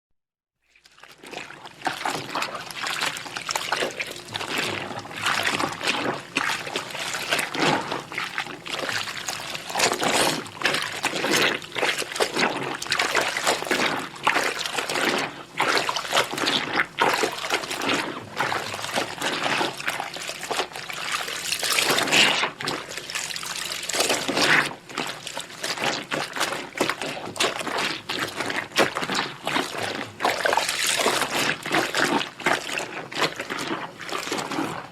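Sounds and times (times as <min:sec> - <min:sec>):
small water splashes: 0:00.7 - 0:34.9
wet fabric squelching and rubbing: 0:00.7 - 0:34.9.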